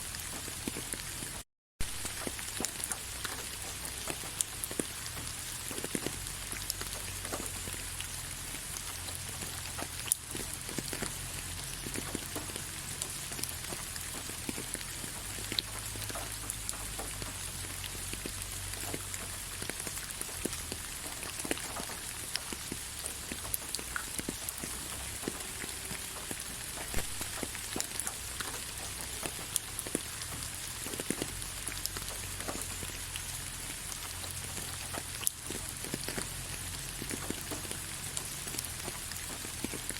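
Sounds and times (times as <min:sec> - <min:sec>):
raindrops ticking on a surface: 0:00.0 - 0:39.9
soft rain hiss: 0:00.0 - 0:39.9.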